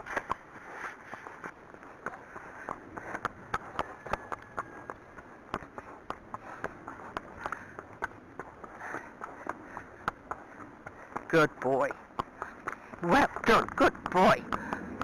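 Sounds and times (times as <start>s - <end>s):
horse hooves clip-clopping on tarmac: 0.0s - 15.0s.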